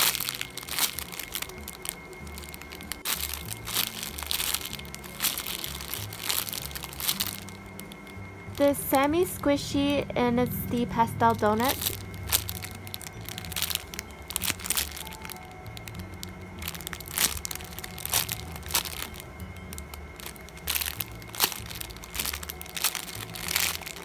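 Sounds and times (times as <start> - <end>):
background music: 0.0 - 24.0
plastic bag crinkling: 0.0 - 24.0.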